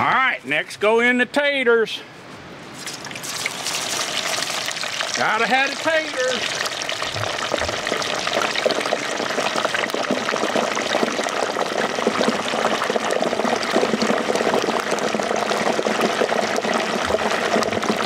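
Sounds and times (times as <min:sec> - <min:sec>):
potatoes sizzling in hot oil: 0:03.2 - 0:18.0.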